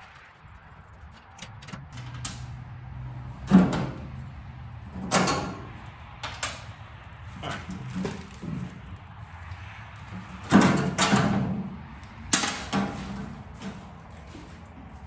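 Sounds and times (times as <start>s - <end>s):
clunks and scrapes: 0.0s - 15.0s.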